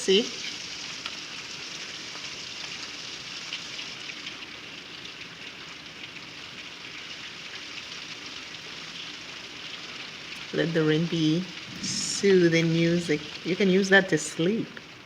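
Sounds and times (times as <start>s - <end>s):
raindrops ticking: 0.0s - 15.0s
steady rain falling: 0.0s - 15.0s.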